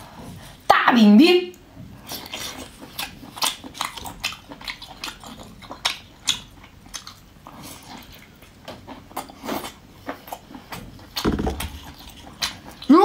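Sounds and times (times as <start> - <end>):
wet chewing and mouth smacks: 2.0 - 12.9.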